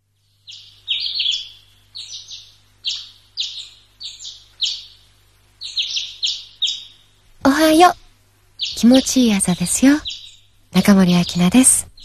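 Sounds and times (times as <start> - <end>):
faint low hum: 0.0 - 12.0
small bird chirping: 0.0 - 12.0.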